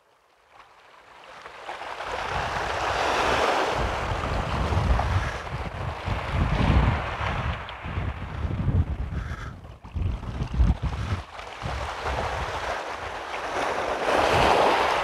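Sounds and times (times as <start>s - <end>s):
waves washing on shingle: 0.5s - 15.0s
wind buffeting microphone: 2.0s - 15.0s.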